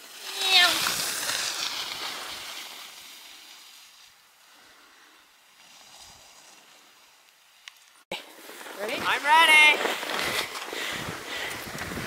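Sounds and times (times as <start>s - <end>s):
skis scraping over packed snow: 0.0s - 12.0s.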